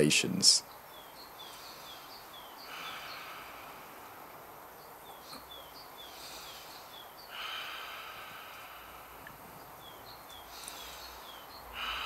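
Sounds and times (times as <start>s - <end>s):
small bird chirping: 0.0s - 12.0s
exhale: 1.4s - 4.6s, 5.2s - 12.0s
deep inhalations: 1.4s - 12.0s.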